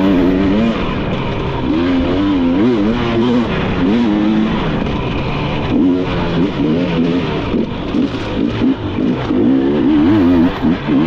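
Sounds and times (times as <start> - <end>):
constant rushing noise: 0.0 - 11.0
dirt bike engine revving: 0.0 - 11.0.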